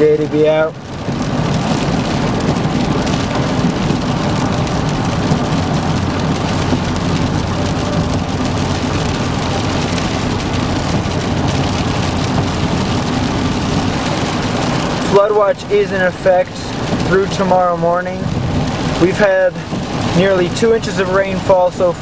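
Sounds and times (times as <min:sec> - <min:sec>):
heavy rain on car roof: 0:00.0 - 0:22.0
tyres rushing on wet road: 0:00.0 - 0:22.0.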